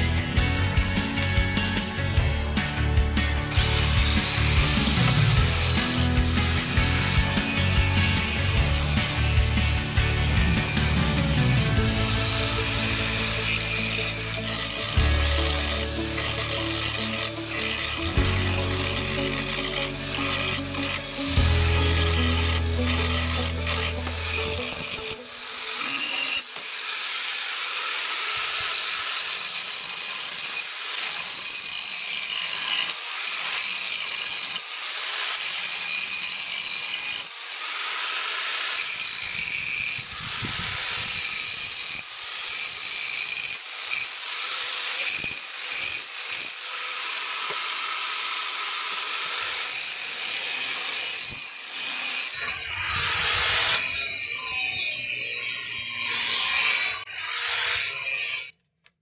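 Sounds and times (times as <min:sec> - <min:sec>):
angle grinder grinding metal: 0:01.2 - 0:58.7.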